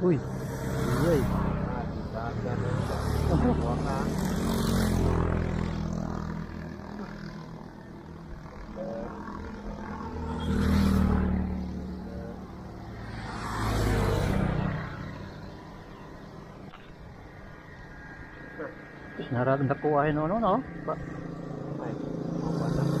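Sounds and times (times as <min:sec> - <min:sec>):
vehicles passing close by: 0:00.0 - 0:23.0.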